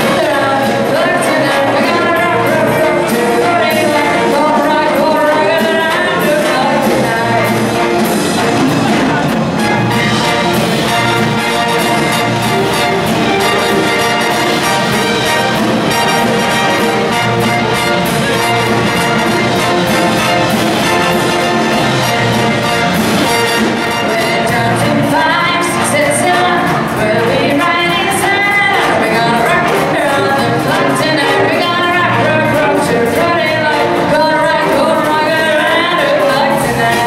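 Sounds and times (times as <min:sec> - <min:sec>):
brass section playing: 0:00.0 - 0:37.0
drums and rhythm section: 0:00.0 - 0:37.0
saxophones: 0:00.0 - 0:37.0.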